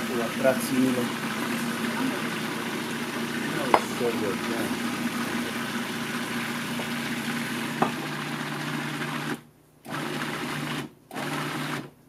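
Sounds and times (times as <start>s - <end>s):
food processor motor blending: 0.0s - 12.0s.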